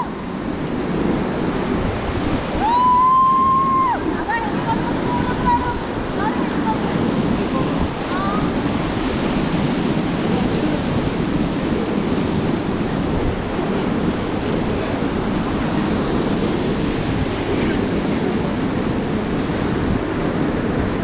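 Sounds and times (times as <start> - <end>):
rushing whitewater: 0.0 - 21.0
wind buffeting microphone: 0.0 - 21.0.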